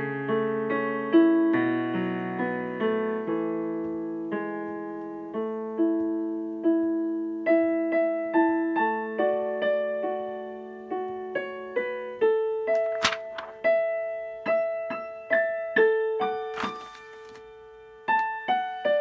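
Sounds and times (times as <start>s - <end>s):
solo piano melody: 0.0s - 19.0s.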